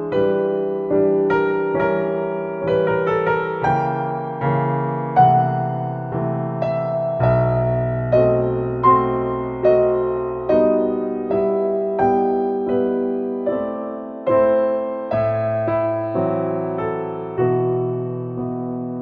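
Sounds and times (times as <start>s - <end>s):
gentle piano notes: 0.0s - 19.0s.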